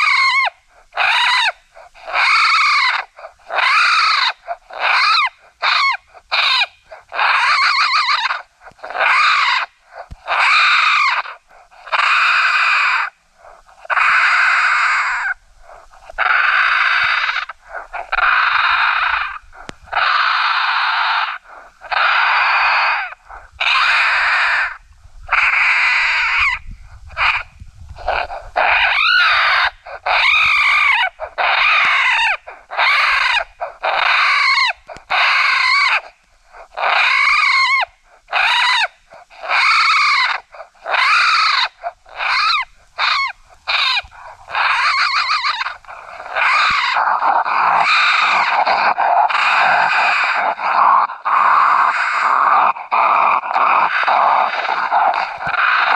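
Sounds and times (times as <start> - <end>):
raccoons screeching and squalling: 0.0 - 55.9.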